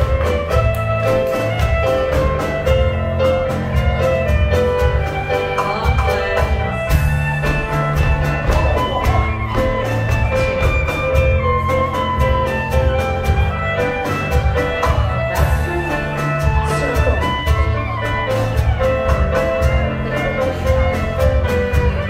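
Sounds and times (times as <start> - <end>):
live dance band playing: 0.0 - 22.0.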